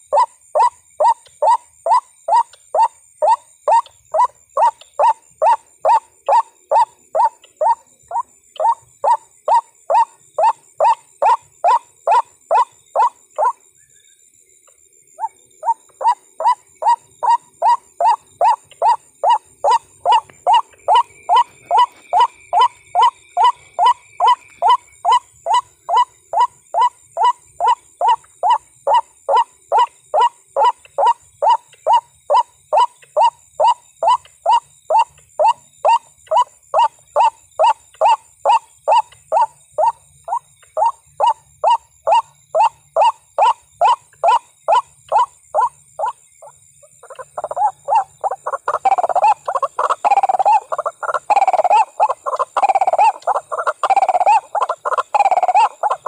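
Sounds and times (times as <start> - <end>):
bird croaking calls: 0.0 - 14.0, 15.1 - 56.0.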